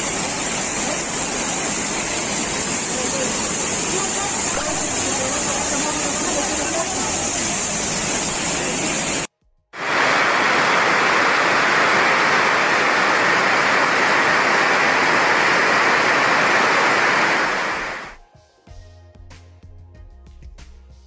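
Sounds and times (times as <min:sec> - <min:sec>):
floodwater rushing: 0:00.0 - 0:18.2.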